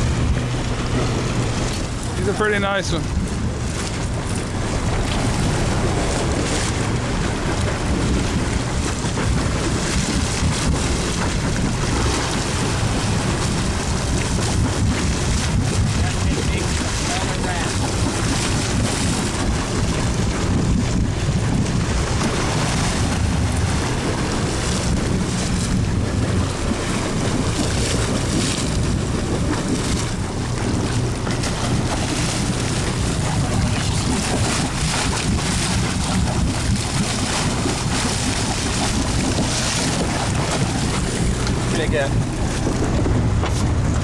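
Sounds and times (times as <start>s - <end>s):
boat engine running: 0.0s - 44.0s
water rushing past hull: 0.0s - 44.0s
wind buffeting microphone: 0.0s - 44.0s.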